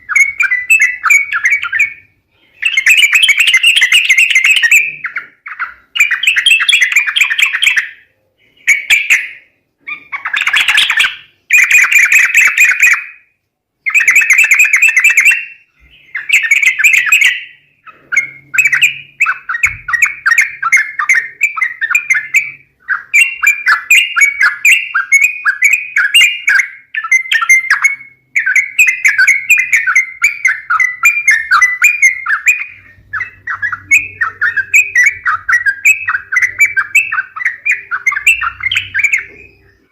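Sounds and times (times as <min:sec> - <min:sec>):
bird chattering calls: 0:00.0 - 0:13.2, 0:13.9 - 0:39.9.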